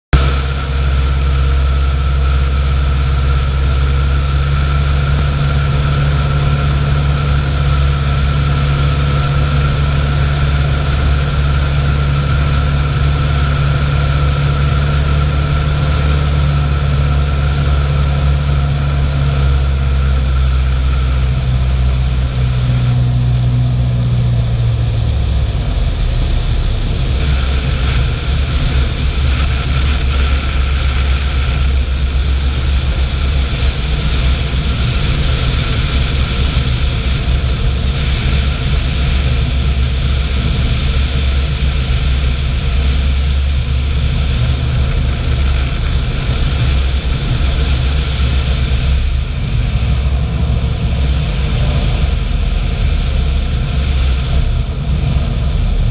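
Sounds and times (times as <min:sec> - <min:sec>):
light aircraft engine droning: 0:00.1 - 0:55.9
wind rush on camera: 0:00.1 - 0:55.9.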